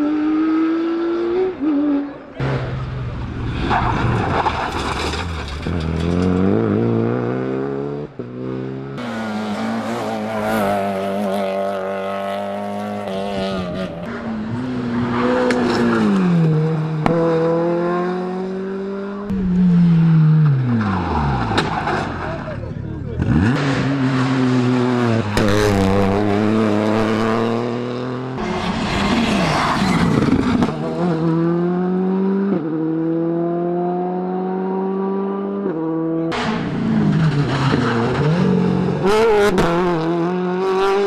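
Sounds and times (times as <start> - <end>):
rally car engines accelerating: 0.0 - 41.0.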